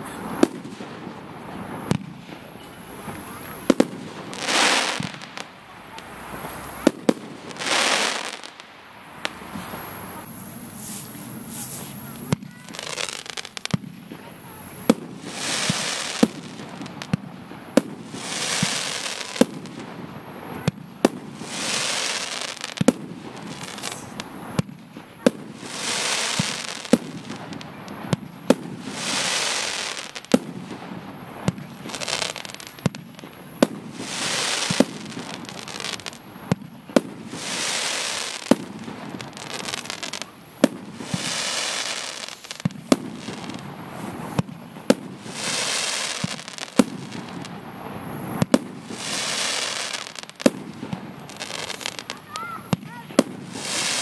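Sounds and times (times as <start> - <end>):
firework crackle: 0.0 - 54.0
firework launch shots: 0.1 - 2.4, 3.0 - 47.6, 48.2 - 54.0.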